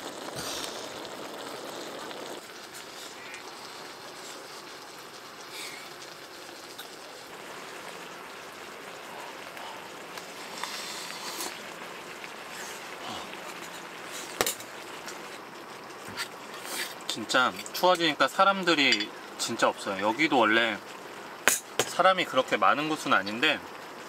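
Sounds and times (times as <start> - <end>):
food sizzling on grill pan: 0.0 - 24.0.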